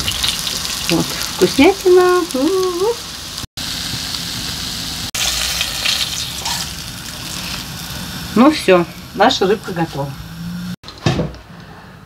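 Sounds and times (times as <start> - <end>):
fish frying in hot oil: 0.0 - 9.9.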